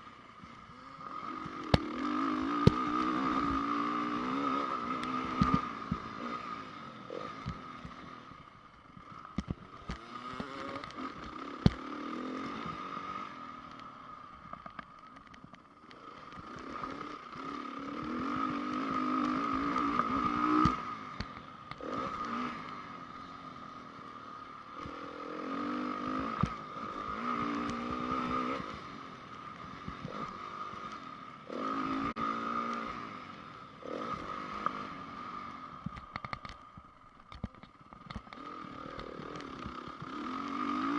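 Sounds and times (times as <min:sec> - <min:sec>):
motocross bike engine revving: 0:00.6 - 0:08.4, 0:09.0 - 0:14.3, 0:15.8 - 0:36.6, 0:37.4 - 0:40.9.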